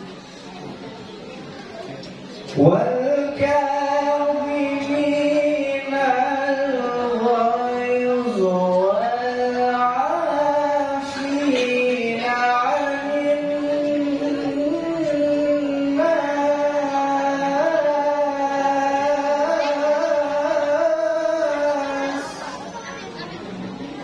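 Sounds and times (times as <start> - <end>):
man chanting through microphone: 2.4 - 22.8.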